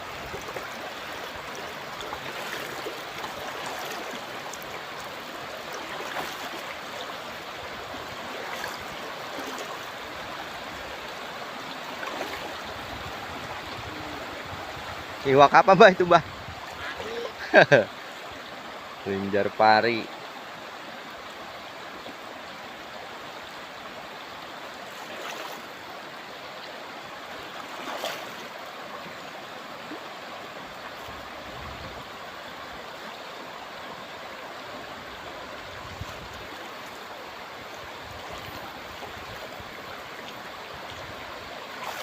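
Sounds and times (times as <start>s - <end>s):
river water babbling over stones: 0.0s - 42.0s.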